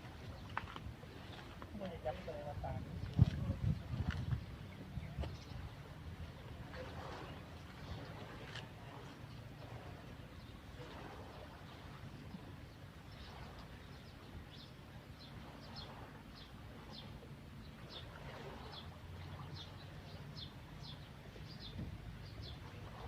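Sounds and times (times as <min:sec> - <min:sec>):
small birds chirping: 0:00.2 - 0:08.6, 0:11.3 - 0:23.0.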